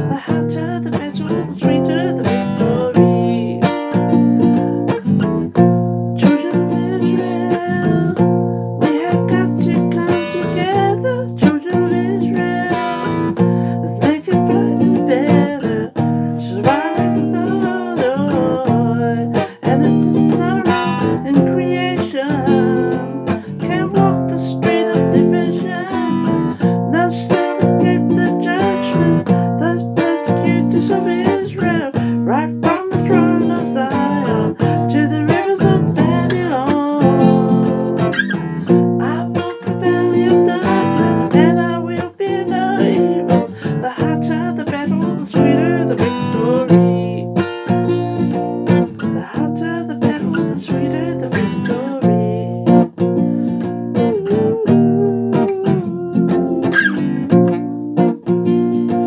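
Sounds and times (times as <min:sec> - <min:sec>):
acoustic guitar strumming: 0:00.0 - 0:59.0
woman singing: 0:00.0 - 0:59.0.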